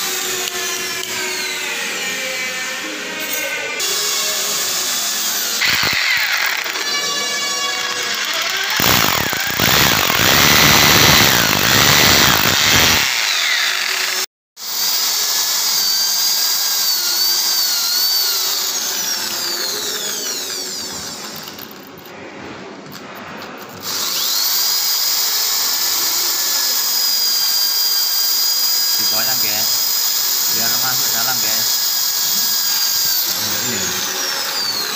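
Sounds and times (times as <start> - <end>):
drill motor whining: 0.0 - 21.9, 23.8 - 34.9
drill grinding into masonry: 0.0 - 22.0, 23.8 - 34.9.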